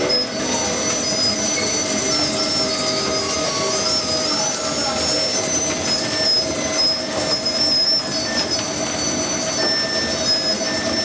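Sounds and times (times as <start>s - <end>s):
high machine squeals: 0.0s - 11.0s
machine droning: 0.0s - 11.0s.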